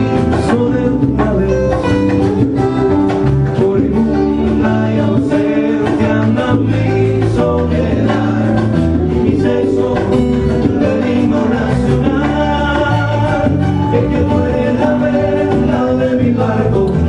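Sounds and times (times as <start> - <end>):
man singing: 0.0 - 2.6, 3.4 - 17.0
bass: 0.0 - 17.0
electric guitars: 0.0 - 17.0
hand drum: 0.0 - 17.0.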